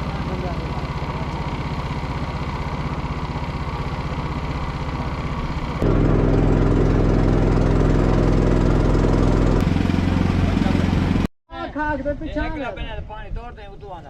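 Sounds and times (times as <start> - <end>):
engine running steadily: 0.0 - 11.3.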